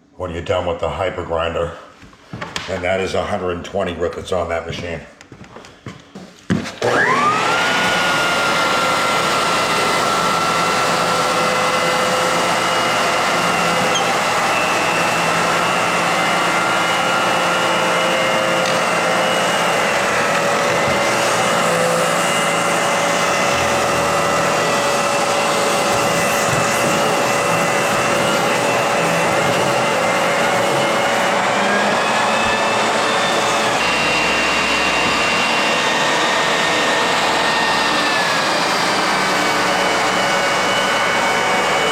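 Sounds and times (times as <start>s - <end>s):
floor edger sanding: 6.5s - 41.9s.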